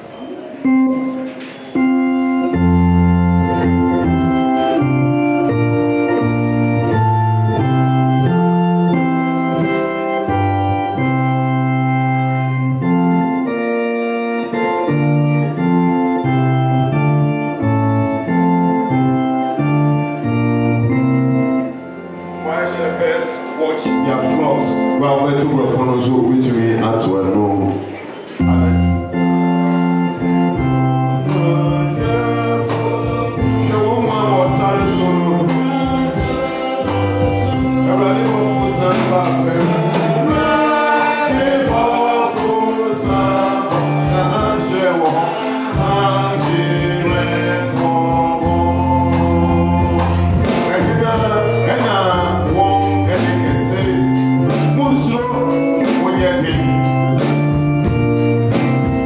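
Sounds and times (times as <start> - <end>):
congregation singing a hymn: 0.0 - 27.1, 27.8 - 59.0
electronic keyboard in organ voice: 0.0 - 59.0.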